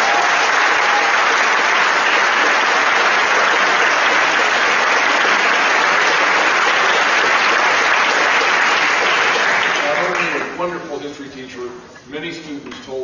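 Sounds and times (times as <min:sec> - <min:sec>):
large audience applauding: 0:00.0 - 0:10.6.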